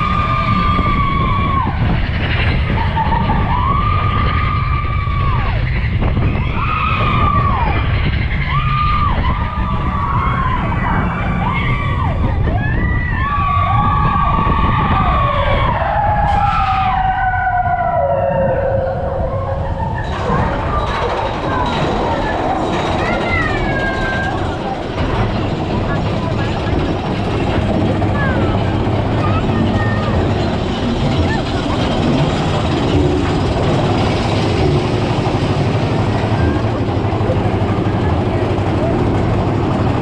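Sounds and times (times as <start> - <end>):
steel wheels squealing: 0.0 - 12.0, 16.2 - 37.2
roller coaster rumbling on track: 0.0 - 40.0.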